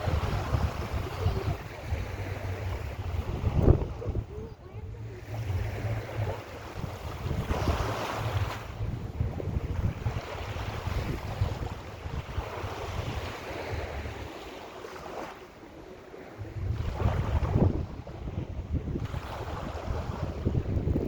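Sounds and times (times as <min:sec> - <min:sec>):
wind buffeting microphone: 0:00.0 - 0:15.3, 0:16.3 - 0:21.0
sea waves breaking: 0:00.0 - 0:21.0.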